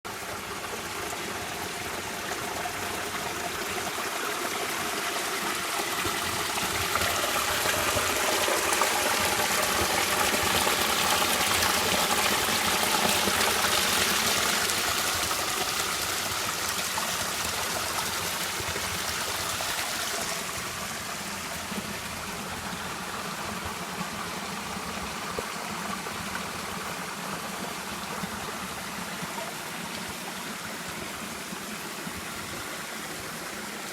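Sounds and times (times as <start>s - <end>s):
stream water rushing: 0.1s - 33.9s.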